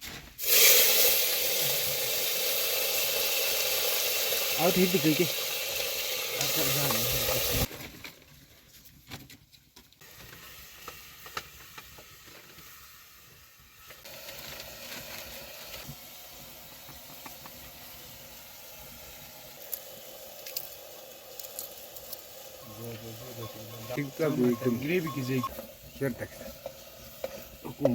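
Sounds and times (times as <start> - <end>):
food sizzling in a pan: 0.0 - 7.7, 10.0 - 27.9.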